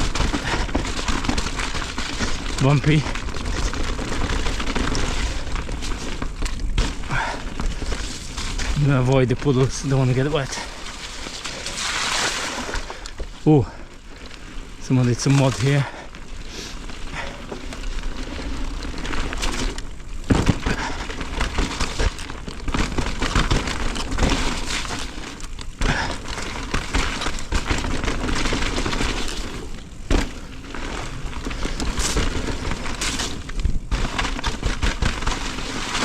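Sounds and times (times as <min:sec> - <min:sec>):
bike tyres rushing and rattling: 0:00.0 - 0:36.0.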